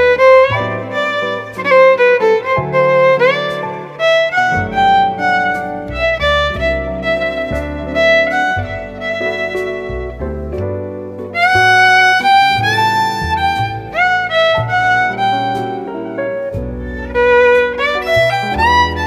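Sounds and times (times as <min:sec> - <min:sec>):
bass line: 0:00.0 - 0:19.0
melody with sliding notes: 0:00.0 - 0:19.0.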